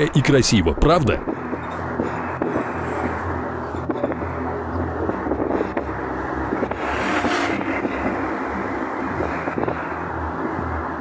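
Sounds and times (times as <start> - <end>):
low rumbling: 0.0 - 11.0
rushing noise: 0.0 - 11.0.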